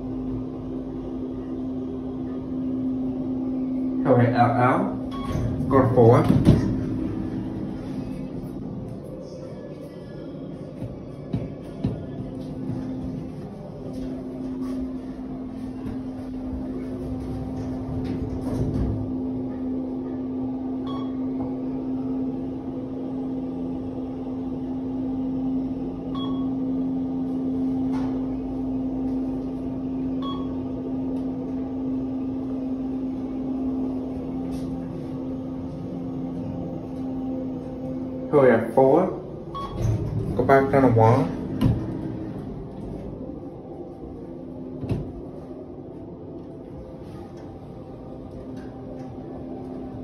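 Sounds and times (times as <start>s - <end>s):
elevator hum: 0.0s - 50.0s.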